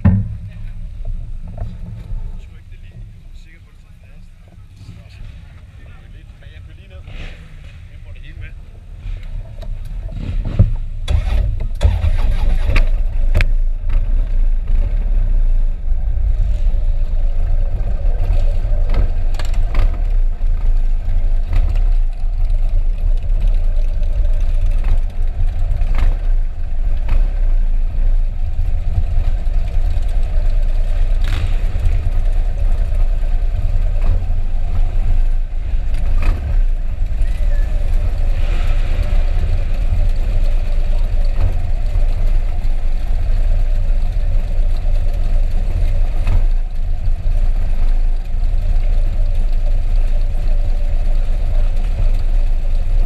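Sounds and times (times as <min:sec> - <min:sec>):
motorcycle engine starting and rumbling: 0:00.0 - 0:53.0
motorcycles idling and pulling away: 0:00.0 - 0:53.0.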